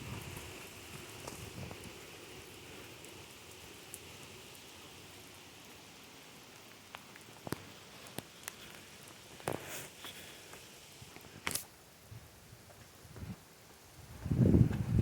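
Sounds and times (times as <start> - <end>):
light rain hissing: 0.0 - 15.0.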